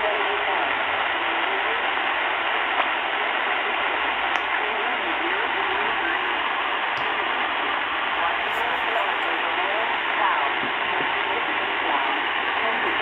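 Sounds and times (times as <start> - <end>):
faint radio voice: 0.0 - 13.0
loud radio hiss: 0.0 - 13.0.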